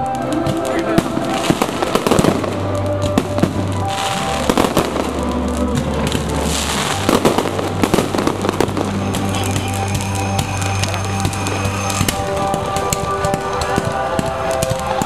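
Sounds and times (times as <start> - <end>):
fireworks bursting: 0.0 - 15.0
music playing: 0.0 - 15.0.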